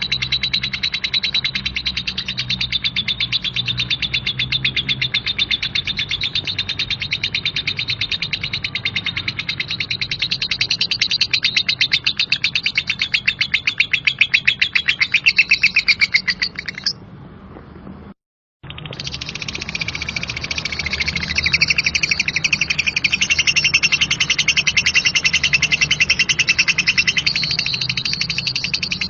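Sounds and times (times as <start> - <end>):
lovebird rapid chirping: 0.0 - 17.0, 18.6 - 29.0.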